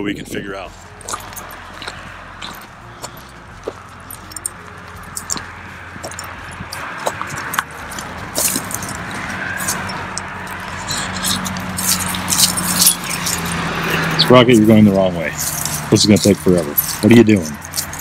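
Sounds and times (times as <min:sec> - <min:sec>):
footsteps on gravel: 0:00.1 - 0:18.0
light metallic jingling: 0:00.3 - 0:18.0
crackling through dry grass: 0:00.5 - 0:18.0.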